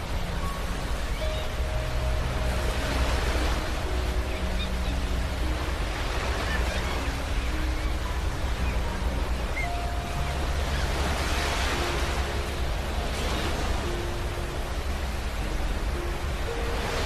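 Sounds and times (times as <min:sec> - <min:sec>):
faint sustained tones: 0:00.0 - 0:17.0
ocean surf washing in: 0:00.0 - 0:17.0.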